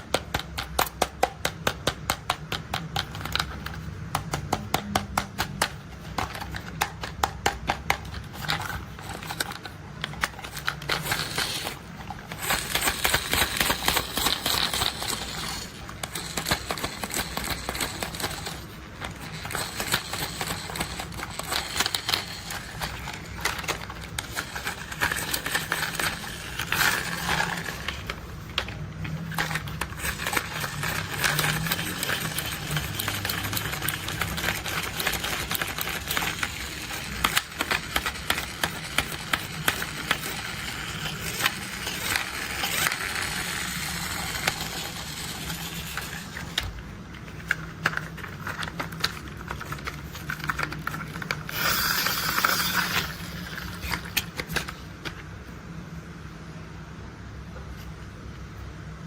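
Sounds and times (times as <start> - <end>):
plastic toy clicking and rattling: 0.0 - 55.2.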